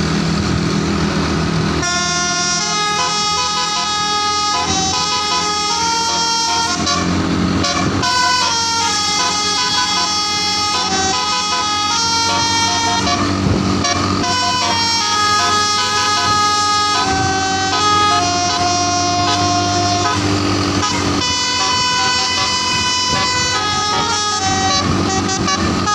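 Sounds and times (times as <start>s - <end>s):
bus engine running: 0.0s - 25.9s
bus horn playing a melody: 1.8s - 25.9s.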